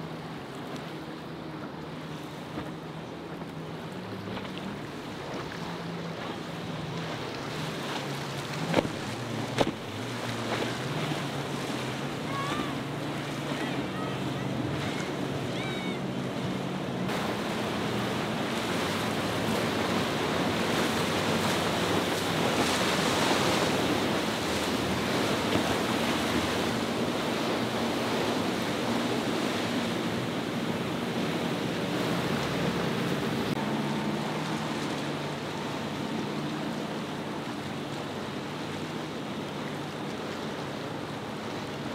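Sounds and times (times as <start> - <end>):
powerboat engines humming: 0.0 - 41.9
waves breaking: 0.0 - 41.9.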